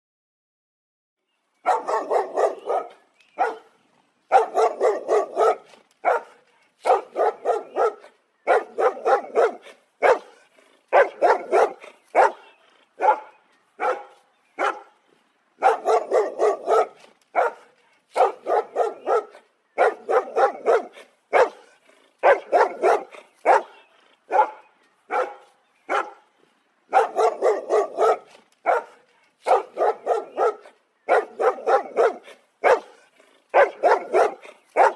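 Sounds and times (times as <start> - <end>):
dog barking: 1.6 - 3.7, 4.3 - 15.0, 15.6 - 26.3, 26.9 - 34.9.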